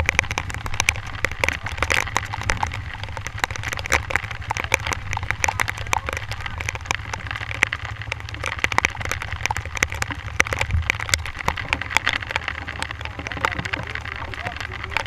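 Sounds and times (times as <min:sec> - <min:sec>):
heavy rain rumble: 0:00.0 - 0:15.0
raindrops ticking near microphone: 0:00.0 - 0:15.0.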